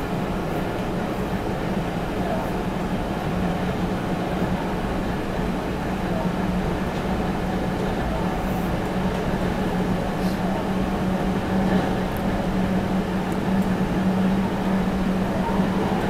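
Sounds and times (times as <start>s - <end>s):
low train hum: 0.0s - 16.0s
train running rumble: 0.0s - 16.0s.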